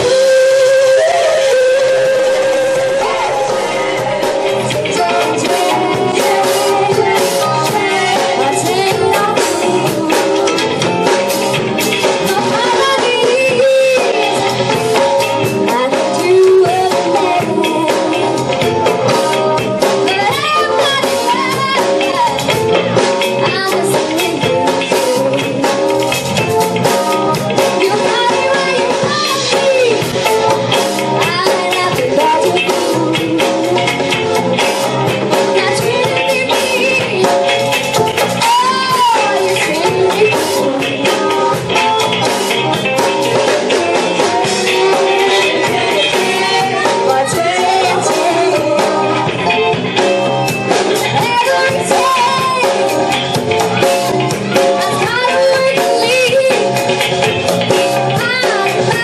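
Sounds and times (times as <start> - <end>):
woman singing into microphone: 0.0 - 49.8, 50.4 - 59.0
live band playing: 0.0 - 59.0.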